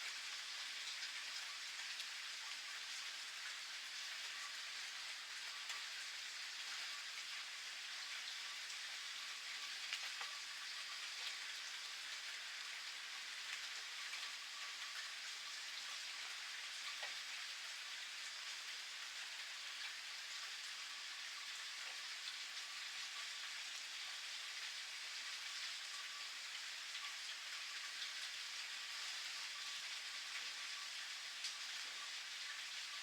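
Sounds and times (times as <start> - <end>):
raindrops pattering on surfaces: 0.0 - 33.0.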